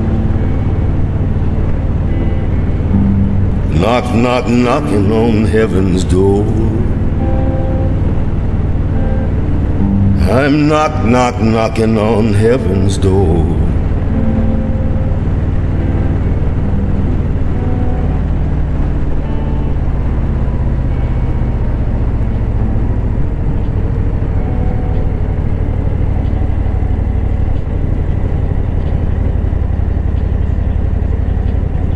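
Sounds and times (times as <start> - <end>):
motorcycle engine rumbling: 0.0 - 31.9.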